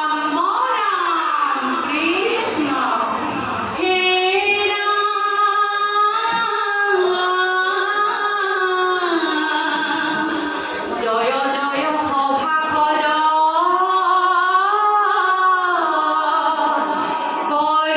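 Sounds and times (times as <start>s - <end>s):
women singing devotional chant: 0.0s - 17.9s.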